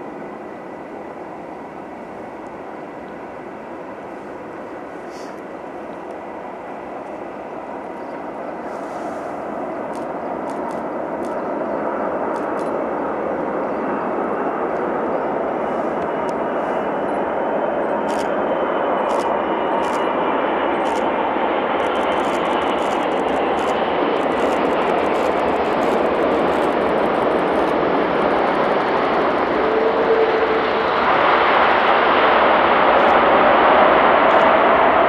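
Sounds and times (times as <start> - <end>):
jet engine rumble with whine: 0.0 - 35.0.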